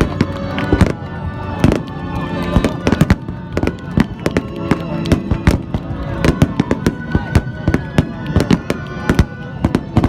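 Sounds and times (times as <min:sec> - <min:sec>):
fireworks bangs and crackles: 0:00.0 - 0:10.0
music playing: 0:00.0 - 0:10.0.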